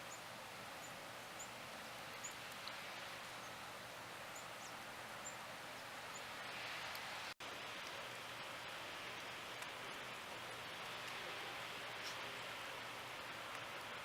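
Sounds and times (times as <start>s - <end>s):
snowstorm hiss: 0.0s - 14.0s.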